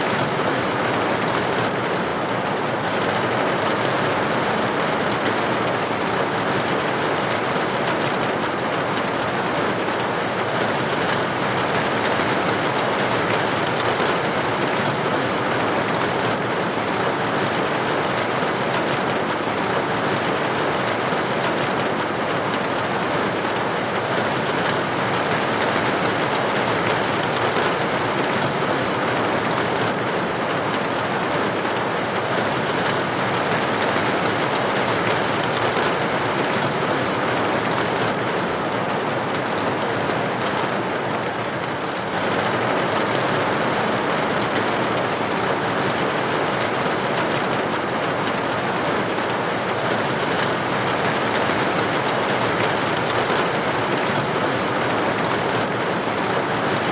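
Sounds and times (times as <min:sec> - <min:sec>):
rain pattering on a window: 0:00.0 - 0:56.9.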